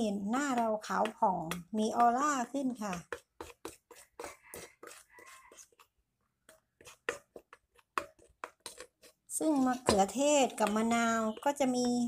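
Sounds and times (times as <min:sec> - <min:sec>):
spoon scraping metal bowl: 0:00.0 - 0:12.0.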